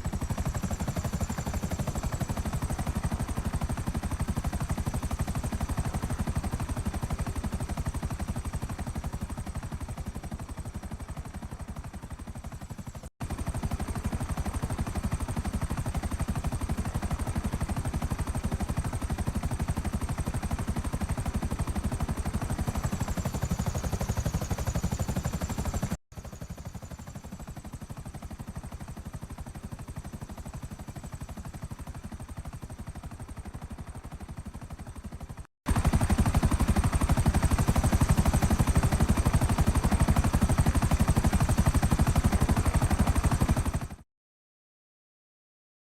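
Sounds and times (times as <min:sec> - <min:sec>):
helicopter rotor blades chopping: 0:00.0 - 0:44.0.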